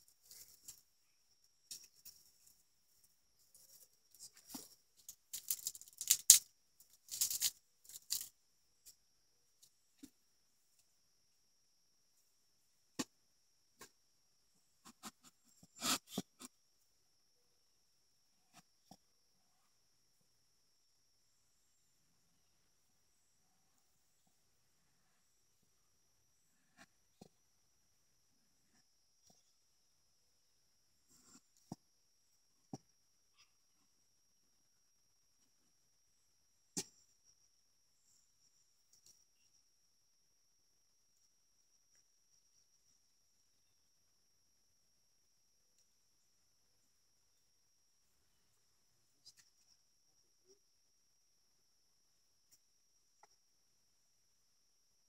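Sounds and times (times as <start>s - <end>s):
faint high-pitched whine: 0.0s - 55.0s.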